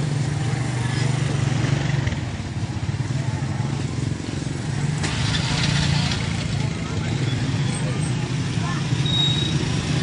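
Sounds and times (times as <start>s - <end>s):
motorcycle engines droning: 0.0s - 10.0s
street noise: 0.0s - 10.0s.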